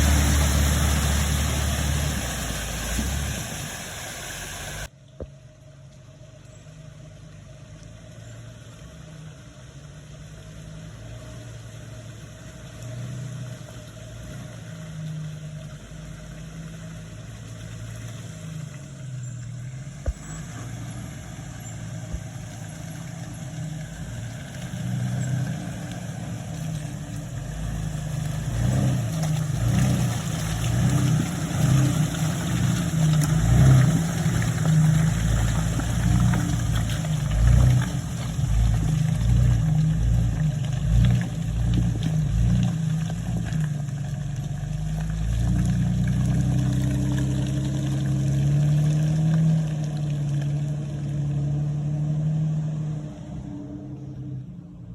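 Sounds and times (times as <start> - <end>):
car engine revving: 0.0 - 4.9, 10.2 - 54.9.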